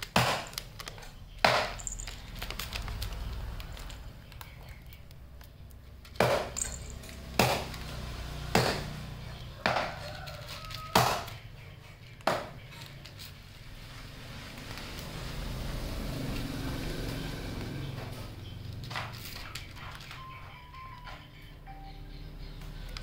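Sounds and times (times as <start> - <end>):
cat crunching dry kibble: 0.0 - 17.6, 18.4 - 20.6.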